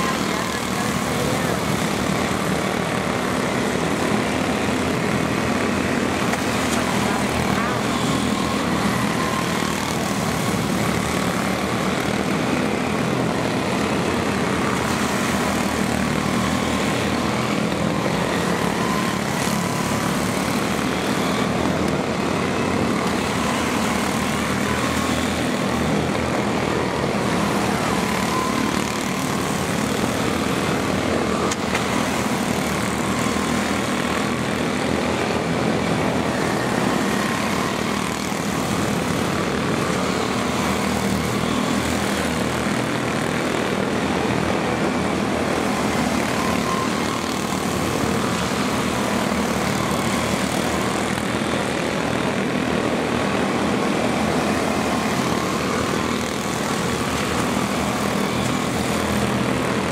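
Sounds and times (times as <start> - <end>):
small race car engines buzzing: 0.0 - 59.9.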